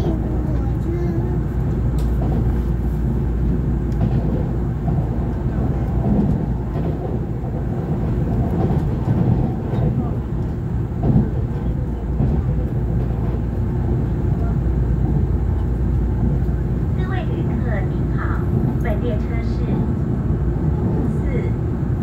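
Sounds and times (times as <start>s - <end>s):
faint passenger voices: 0.0s - 22.0s
train cabin low rumble: 0.0s - 22.0s.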